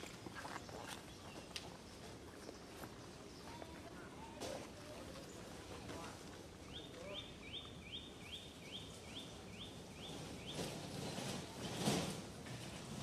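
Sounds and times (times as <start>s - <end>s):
quiet outdoor ambience: 0.0s - 13.0s.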